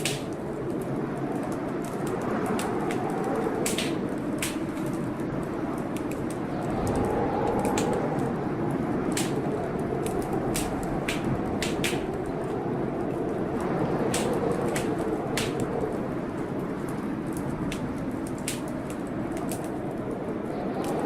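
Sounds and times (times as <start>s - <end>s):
storm rushing: 0.0s - 21.0s
wood fire crackling and popping: 0.0s - 21.0s.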